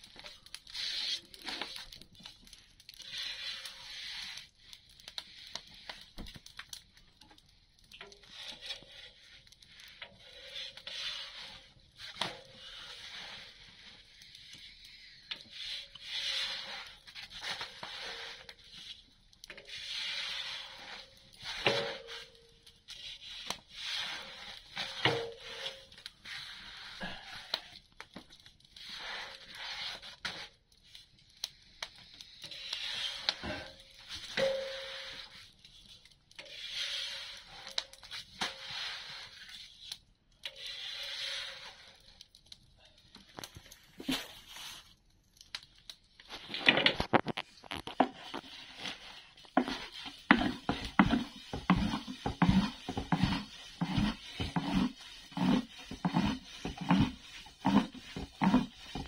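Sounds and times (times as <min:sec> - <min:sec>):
fire crackles and pops: 0:00.0 - 0:59.0
wood fire hissing: 0:00.0 - 0:59.0.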